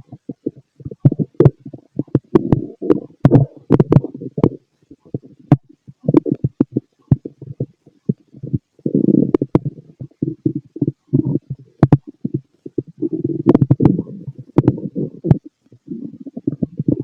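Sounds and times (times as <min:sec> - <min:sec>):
stomach gurgling: 0:00.0 - 0:17.0.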